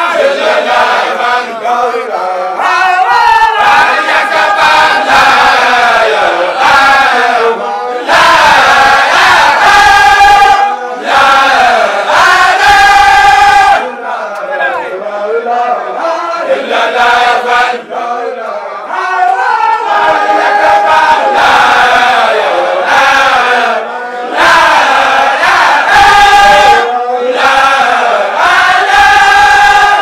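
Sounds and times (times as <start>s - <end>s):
group of voices chanting: 0.0s - 30.0s.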